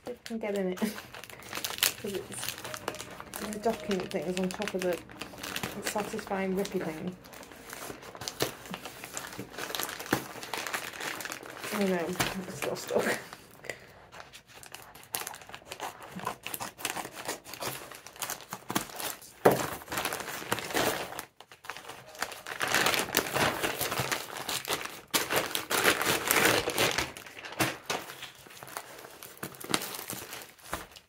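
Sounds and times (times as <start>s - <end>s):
scissors cutting plastic: 0.0s - 13.3s, 14.7s - 31.0s
plastic bag crinkling and tearing: 0.0s - 31.0s.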